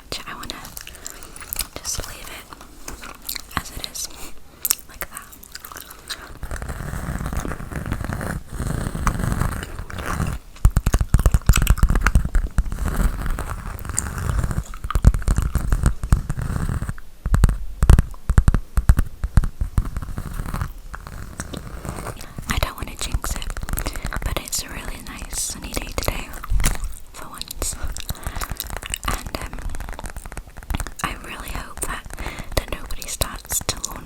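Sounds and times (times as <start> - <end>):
gum chewing wet clicks: 0.4 - 2.4, 4.6 - 7.6, 8.7 - 19.0, 20.5 - 34.0.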